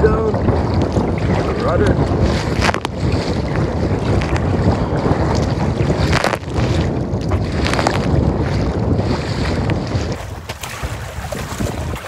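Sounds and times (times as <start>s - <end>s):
waves splashing against kayak: 0.0s - 12.0s
wind buffeting microphone: 0.0s - 12.0s.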